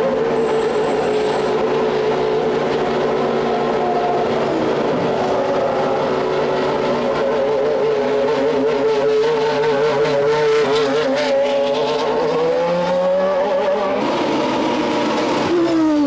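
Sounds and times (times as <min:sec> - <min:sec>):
racing car engines high-pitched: 0:00.0 - 0:16.0.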